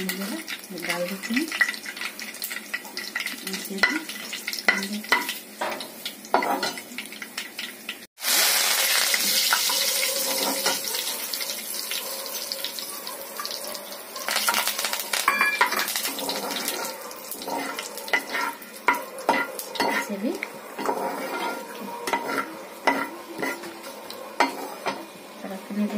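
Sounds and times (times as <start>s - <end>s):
oil sizzling loudly: 0.0s - 25.9s.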